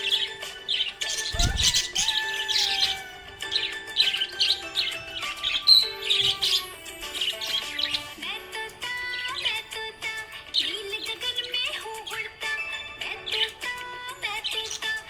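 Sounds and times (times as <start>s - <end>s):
background music with held tones: 0.0s - 15.0s
parrots chirping: 0.0s - 15.0s.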